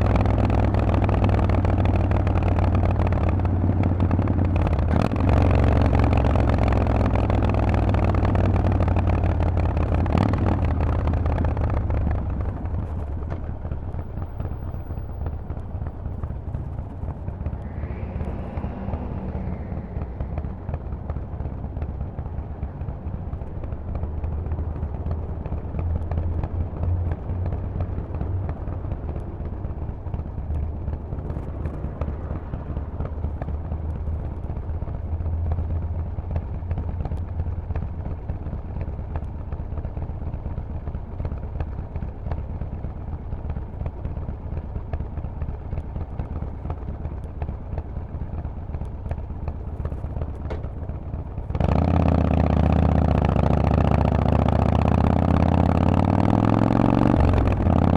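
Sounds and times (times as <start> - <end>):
motorcycle engine rumbling: 0.0 - 57.9.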